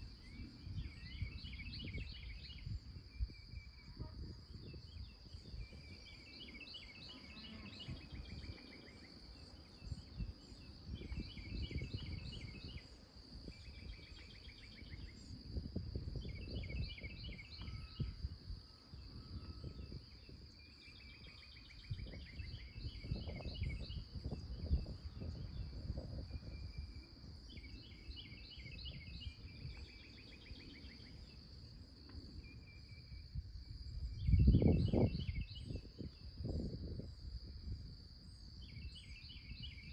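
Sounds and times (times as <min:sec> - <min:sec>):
songbird chirping: 0:00.0 - 0:15.6, 0:16.2 - 0:36.3
high-pitched insect drone: 0:00.4 - 0:37.2.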